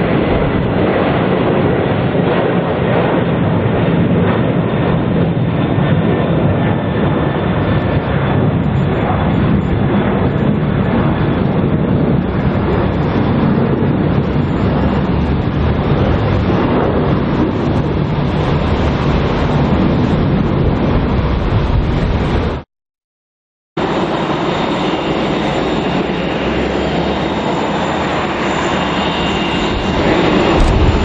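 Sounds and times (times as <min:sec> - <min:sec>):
jet engines roaring: 0:00.0 - 0:22.6, 0:23.8 - 0:31.0.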